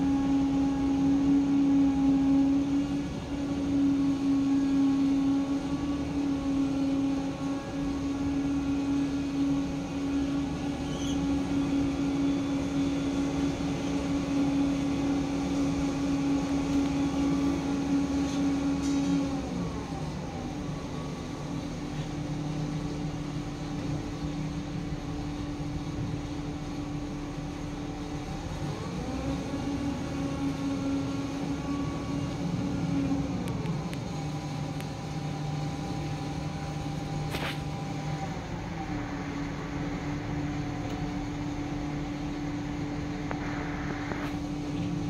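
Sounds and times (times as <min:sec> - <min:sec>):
heavy diesel engines running: 0:00.0 - 0:45.0.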